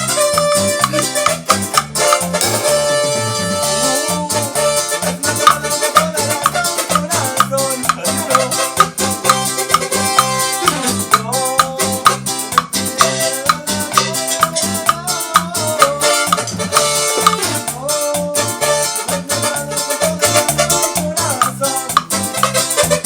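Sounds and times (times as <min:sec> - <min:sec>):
cumbia band music: 0:00.0 - 0:23.0.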